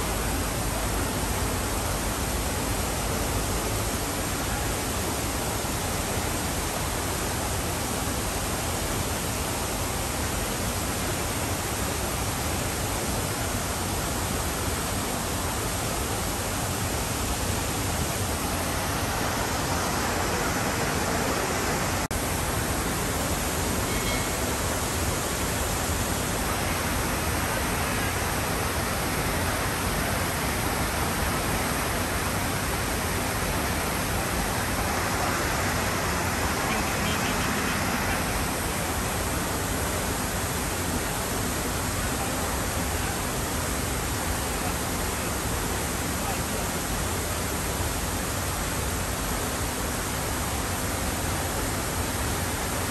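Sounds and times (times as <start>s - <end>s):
fountain water splashing: 0.0s - 52.9s.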